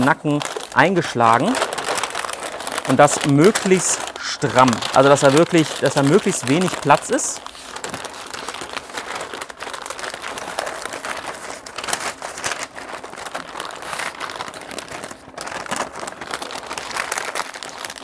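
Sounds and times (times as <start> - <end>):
paper crinkling and rustling: 0.0 - 18.0.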